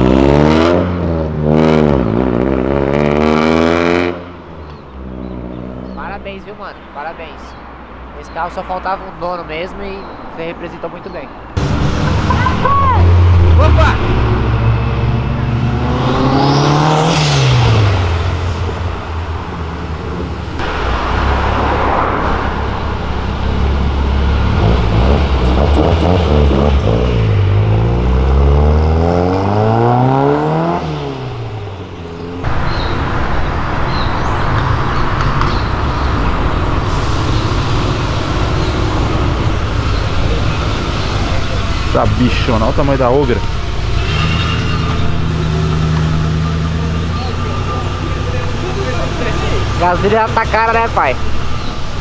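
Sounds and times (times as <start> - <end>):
car engines accelerating: 0.0 - 52.0
steady traffic noise: 0.0 - 52.0.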